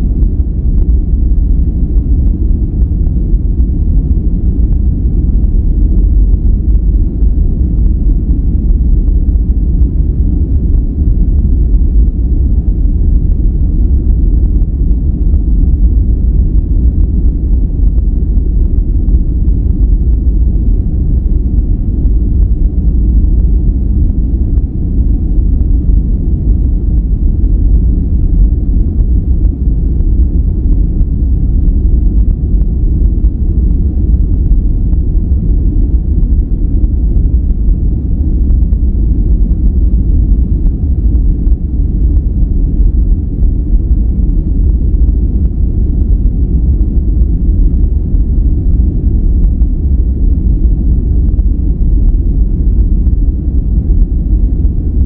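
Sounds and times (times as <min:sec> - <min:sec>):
steady deep rumble: 0:00.0 - 0:55.0.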